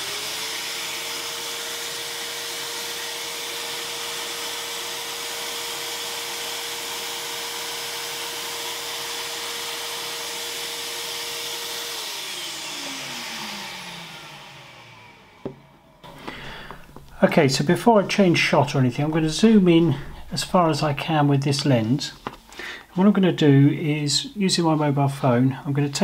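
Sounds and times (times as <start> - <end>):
vacuum cleaner running: 0.0 - 22.8.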